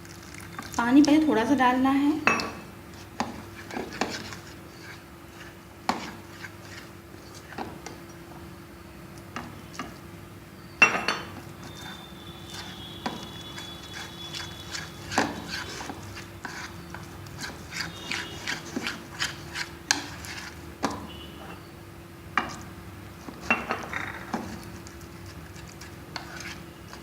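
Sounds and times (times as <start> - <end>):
spoon stirring batter in a bowl: 0.0 - 10.2, 10.9 - 21.8, 22.4 - 27.0.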